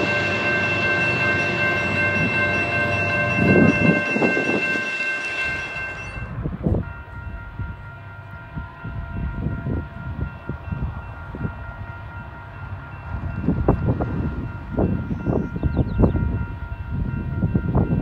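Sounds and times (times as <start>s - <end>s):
distant locomotive horn: 0.0s - 18.0s
wind buffeting microphone: 0.0s - 18.0s.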